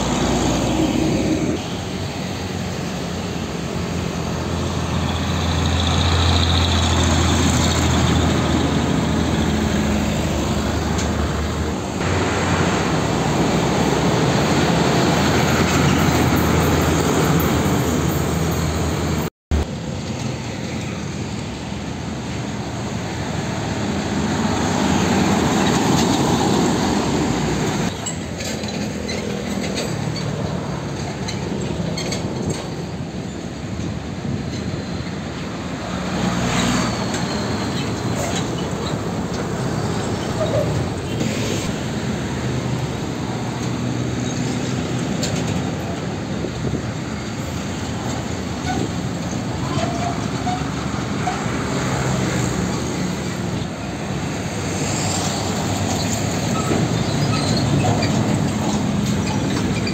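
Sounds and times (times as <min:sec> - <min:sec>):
truck engine drone: 0:00.0 - 0:59.9
tyre and road noise: 0:00.0 - 0:59.9.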